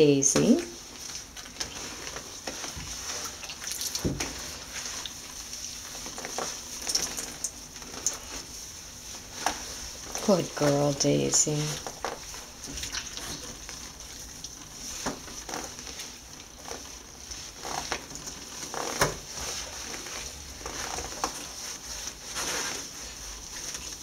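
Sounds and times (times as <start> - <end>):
wet squishy fur rubbing: 0.1 - 24.0.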